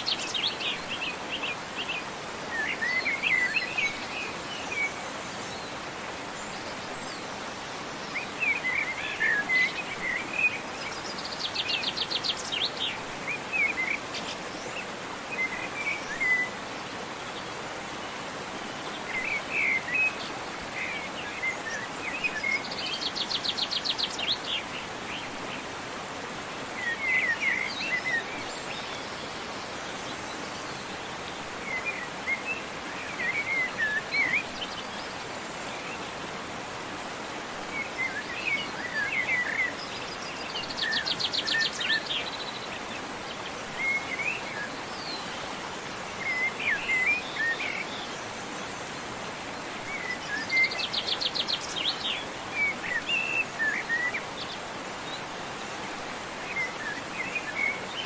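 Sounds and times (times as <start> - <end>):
songbirds singing: 0.0 - 58.0
waterfall rushing: 0.0 - 58.0.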